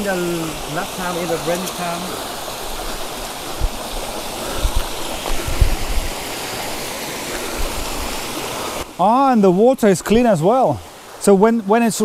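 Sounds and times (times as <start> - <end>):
stream splashing over boulders: 0.0 - 12.0.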